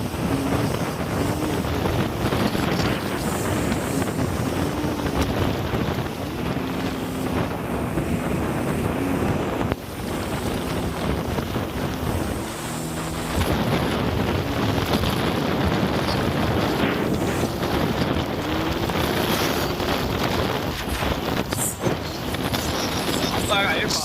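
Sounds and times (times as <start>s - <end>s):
jet ski engine running: 0.0s - 24.0s
wind buffeting microphone: 0.0s - 24.0s.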